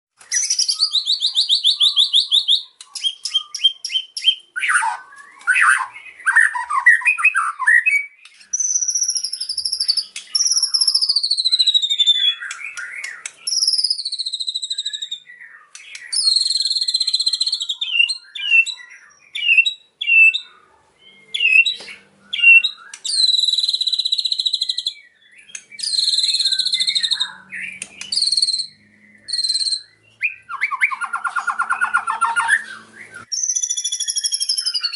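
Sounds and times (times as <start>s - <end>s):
songbird singing varied song: 0.2s - 34.9s.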